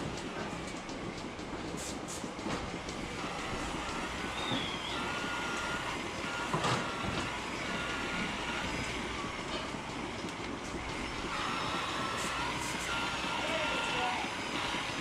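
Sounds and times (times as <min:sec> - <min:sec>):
steady machinery noise: 0:00.0 - 0:15.0.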